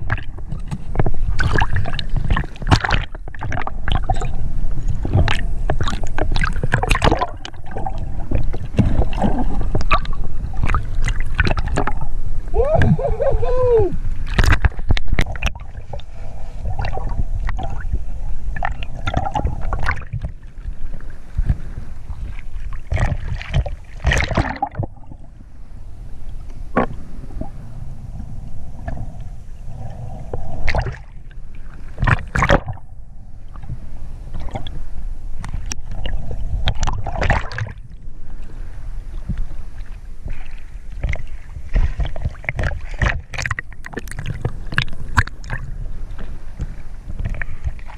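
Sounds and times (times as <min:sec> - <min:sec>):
low water rumble: 0:00.0 - 0:47.9
water sloshing and gurgling: 0:00.0 - 0:47.9
water splashes and bubbles: 0:00.0 - 0:47.9.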